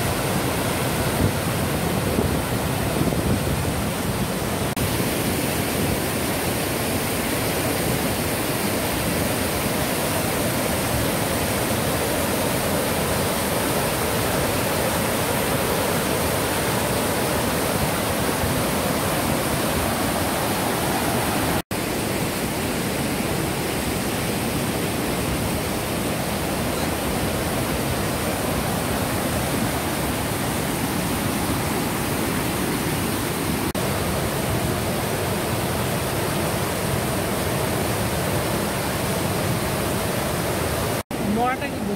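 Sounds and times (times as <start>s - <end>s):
river rapids rushing over boulders: 0.0s - 41.9s.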